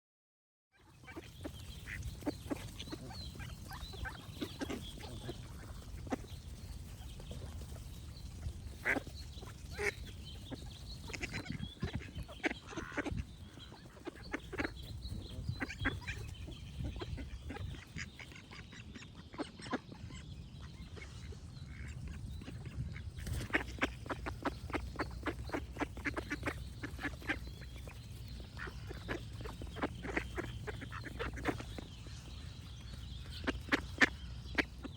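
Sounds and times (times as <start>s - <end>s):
birds singing faintly: 0.7s - 34.9s
ducks quacking: 0.8s - 34.9s
steady low rumble: 1.1s - 34.9s.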